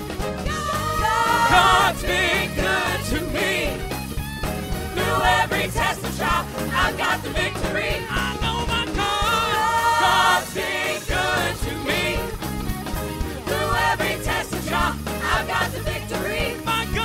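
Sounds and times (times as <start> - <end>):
singers with band gospel song: 0.2 - 17.0.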